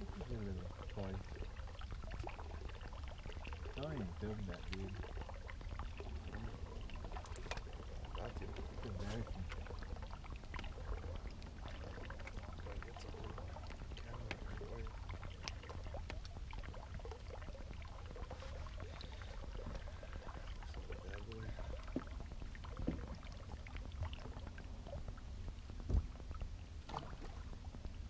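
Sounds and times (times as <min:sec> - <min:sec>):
steady low rumble: 0:00.0 - 0:28.0
water lapping against boat hull: 0:00.0 - 0:28.0.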